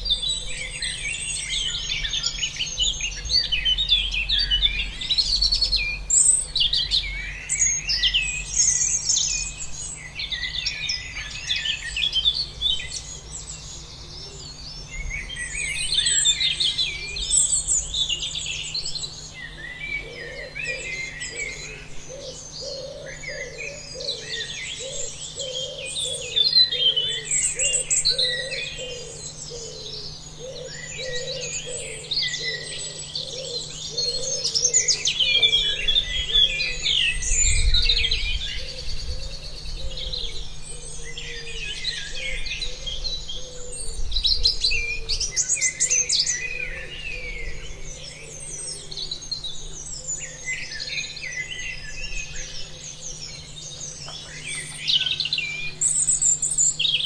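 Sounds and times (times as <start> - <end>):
lower bird call: 0.0 - 57.0
small birds chirping: 0.0 - 57.0.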